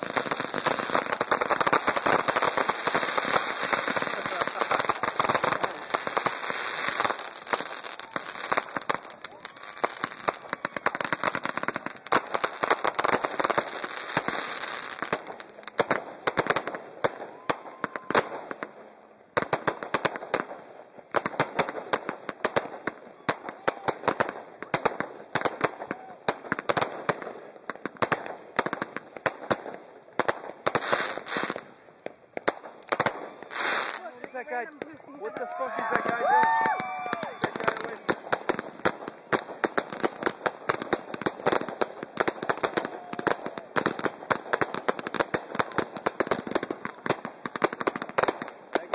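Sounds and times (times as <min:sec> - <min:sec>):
fireworks crackling pops: 0:00.0 - 0:48.9.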